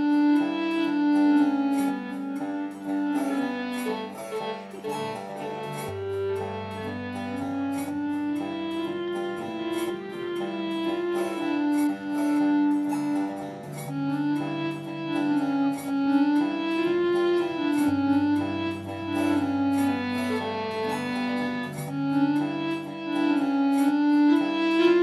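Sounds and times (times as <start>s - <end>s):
slow bowed string melody: 0.0s - 25.0s.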